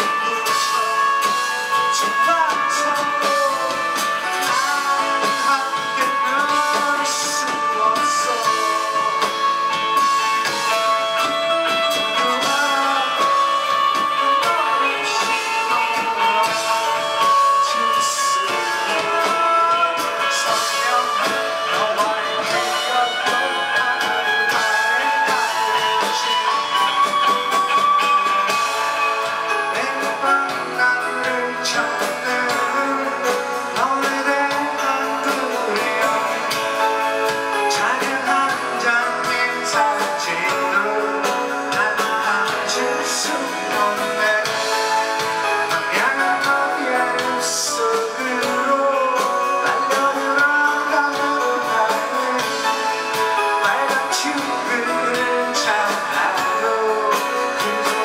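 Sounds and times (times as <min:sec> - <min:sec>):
live indie rock band: 0:00.0 - 0:58.0
person singing: 0:00.0 - 0:58.0.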